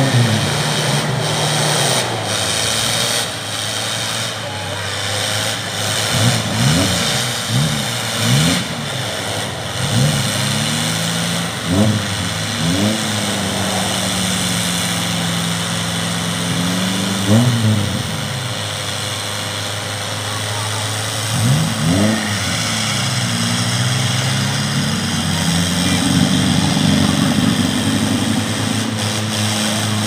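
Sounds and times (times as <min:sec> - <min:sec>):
off-road engine revving: 0:00.0 - 0:30.0.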